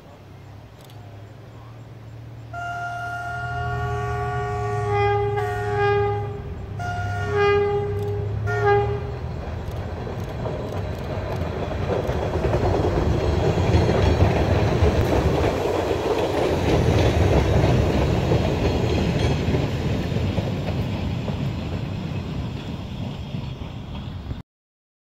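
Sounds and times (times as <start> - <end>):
subway train rumbling past: 0.0 - 24.4.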